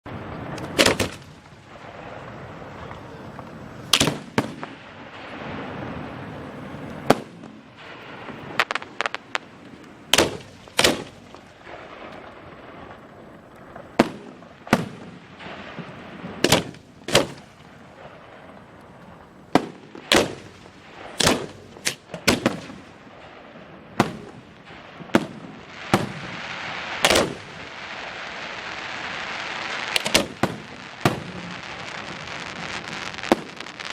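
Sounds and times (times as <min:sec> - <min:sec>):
fireworks booming: 0:00.1 - 0:33.9
fireworks crackling hiss: 0:00.1 - 0:33.9.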